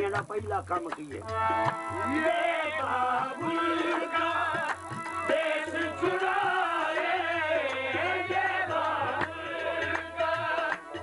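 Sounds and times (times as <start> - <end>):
harmonium tones: 0.0 - 11.0
tabla beat: 0.0 - 11.0
voices singing: 1.4 - 11.0.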